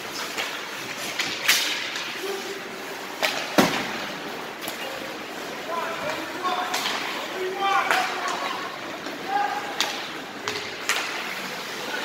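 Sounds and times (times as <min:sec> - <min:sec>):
hockey sticks and puck clacking: 0:00.0 - 0:04.9, 0:05.9 - 0:12.0.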